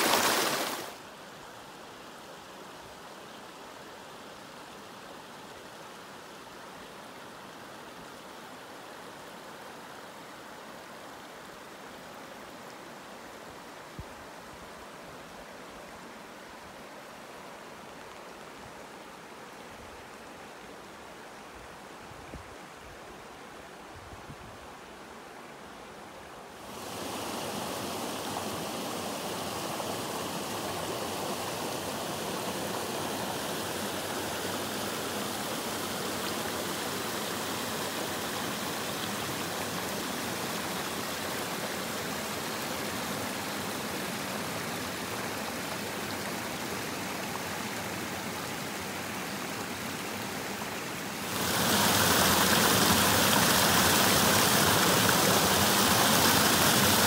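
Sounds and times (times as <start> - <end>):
river water rushing: 0.0 - 24.0, 24.6 - 57.0.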